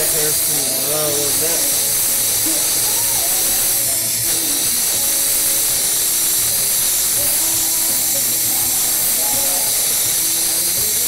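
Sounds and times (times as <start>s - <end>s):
faint music: 0.0s - 11.0s
torch flame hissing: 0.0s - 11.0s.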